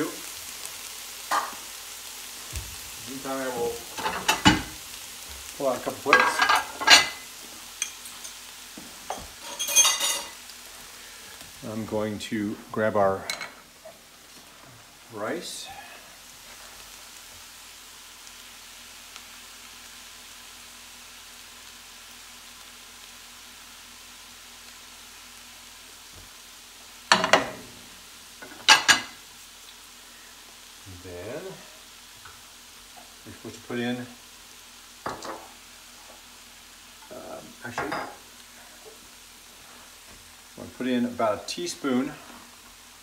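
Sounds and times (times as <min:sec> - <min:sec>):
faint sizzle of hot skillet: 0:00.0 - 0:43.0.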